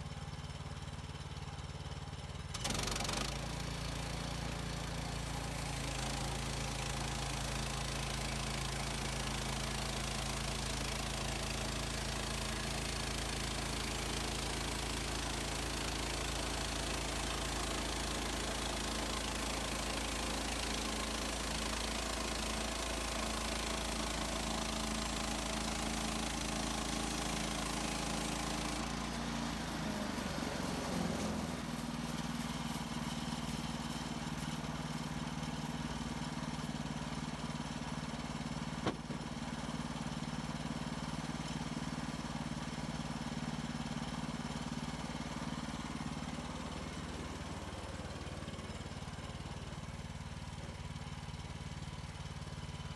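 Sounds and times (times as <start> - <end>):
sawmill engine drone: 0.0 - 52.9.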